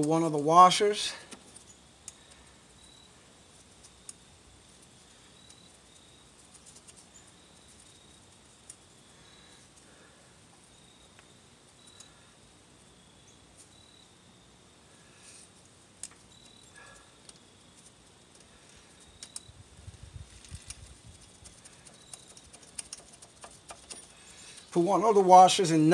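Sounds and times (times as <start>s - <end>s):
faint high-pitched chirps: 1.5s - 15.6s, 16.2s - 17.9s, 18.5s - 24.8s.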